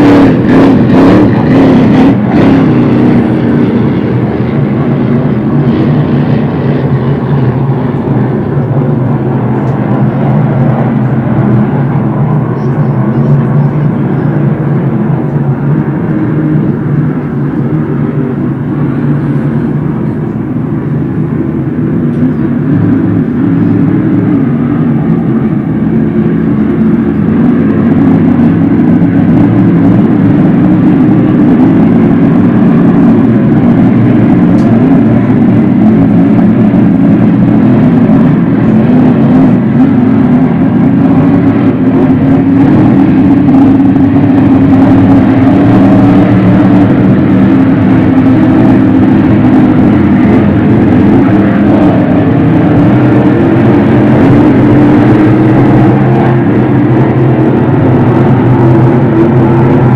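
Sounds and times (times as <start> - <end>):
racing boat engines droning: 0.0 - 59.9.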